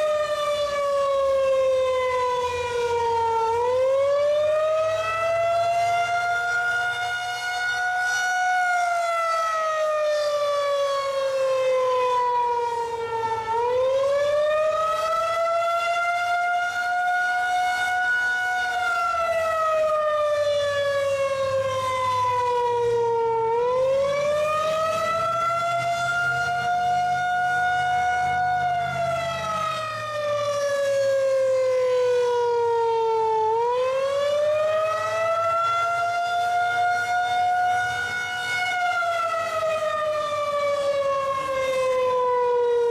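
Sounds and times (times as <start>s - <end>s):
warning siren wailing: 0.0s - 42.9s.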